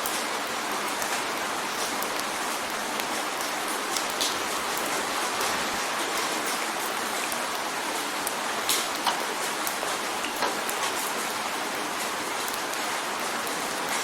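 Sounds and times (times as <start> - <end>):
rain drumming on a window: 0.0 - 14.0
raindrops ticking on glass: 0.0 - 14.0.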